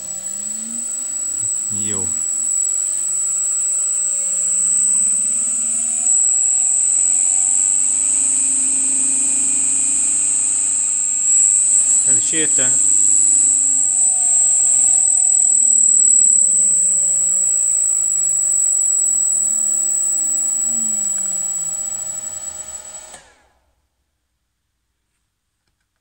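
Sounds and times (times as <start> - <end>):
electric motor whining down: 0.0 - 23.6.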